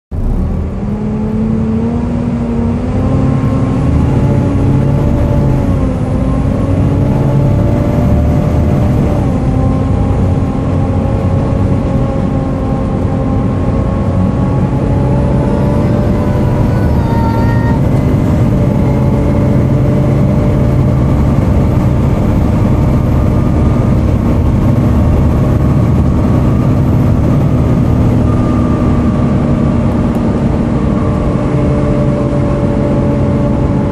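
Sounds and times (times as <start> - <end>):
bus engine and road rumble: 0.1 - 33.9
bus cooling fan whine: 0.2 - 33.9.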